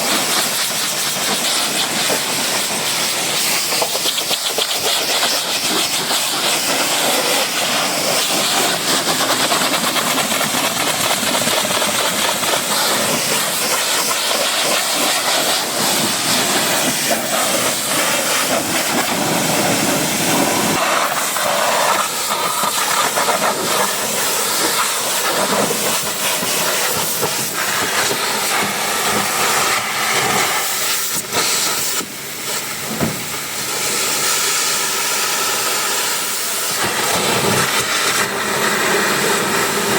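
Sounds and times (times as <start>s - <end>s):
pressure washer spray hissing: 0.0s - 39.9s.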